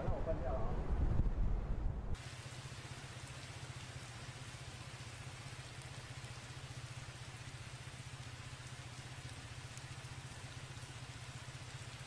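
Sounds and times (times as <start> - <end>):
heavy rain hissing: 2.2 - 12.0.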